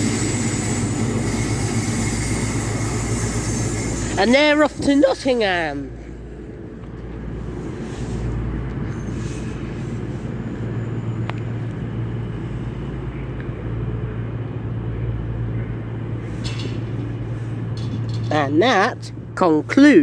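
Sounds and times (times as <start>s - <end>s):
diesel train engine drone: 0.0s - 20.0s.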